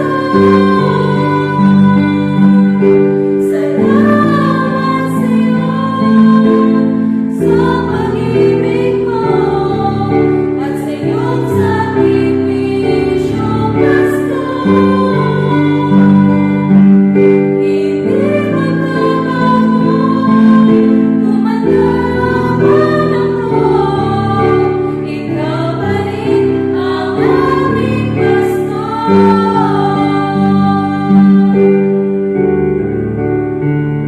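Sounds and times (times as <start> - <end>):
group of voices singing: 0.0 - 32.0.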